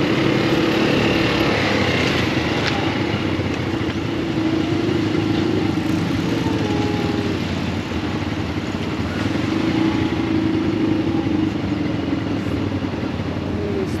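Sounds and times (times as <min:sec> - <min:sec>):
buggy engine running: 0:00.0 - 0:14.0.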